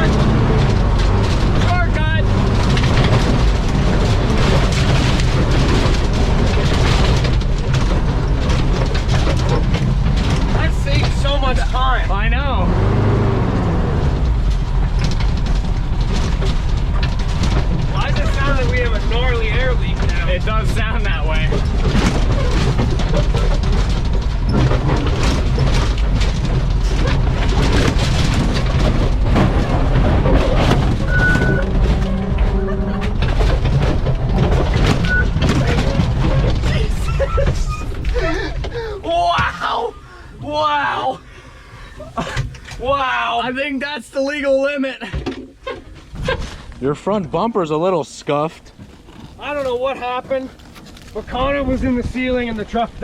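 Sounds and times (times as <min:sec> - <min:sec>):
truck body knocking and rattling: 0:00.0 - 0:41.3, 0:41.9 - 0:47.5
fire truck engine under load: 0:00.0 - 0:53.0.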